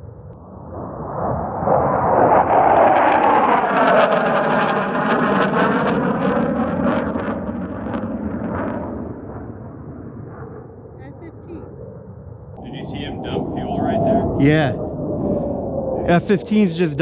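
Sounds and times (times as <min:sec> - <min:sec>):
jet engine roar passing overhead: 0:00.4 - 0:10.9, 0:12.6 - 0:17.0.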